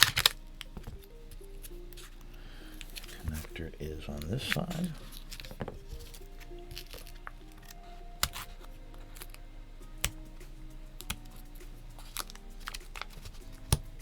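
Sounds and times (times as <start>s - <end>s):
tape crinkling: 0.0s - 9.4s, 11.0s - 14.0s
soft background music: 0.0s - 14.0s.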